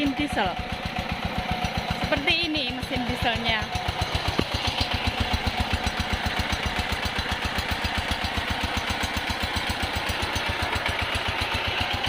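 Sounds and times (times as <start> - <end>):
diesel water pump engine running: 0.0 - 12.0.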